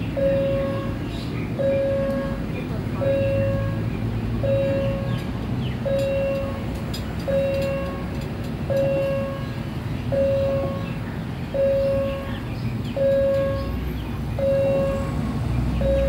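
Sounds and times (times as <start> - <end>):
level-crossing warning bell: 0.0 - 13.8, 14.4 - 16.0
diesel railcar rumbling: 0.0 - 16.0.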